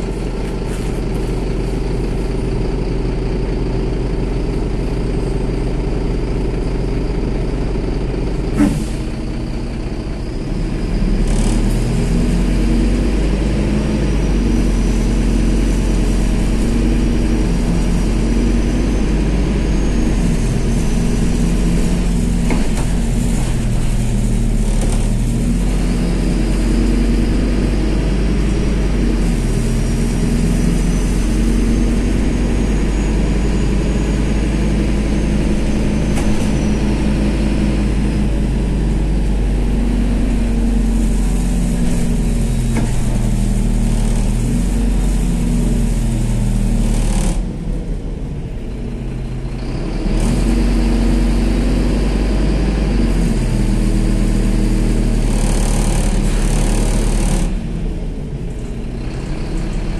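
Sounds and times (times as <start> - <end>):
bus engine running: 0.0 - 59.9.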